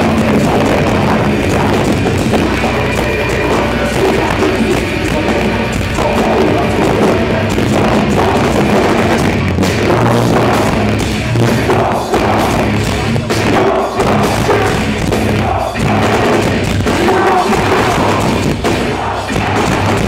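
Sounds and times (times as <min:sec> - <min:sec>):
heavy metal band playing: 0:00.0 - 0:20.0
pounding drum kit: 0:00.0 - 0:20.0.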